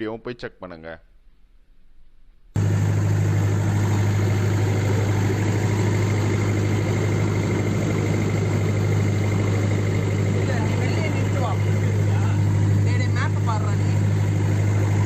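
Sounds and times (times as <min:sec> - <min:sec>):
jeep engine idling: 0:02.6 - 0:15.0.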